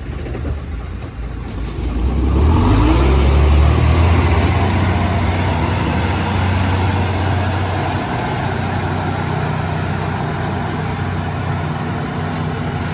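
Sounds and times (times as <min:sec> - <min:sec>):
paving machinery engine rumble: 0:00.0 - 0:12.9.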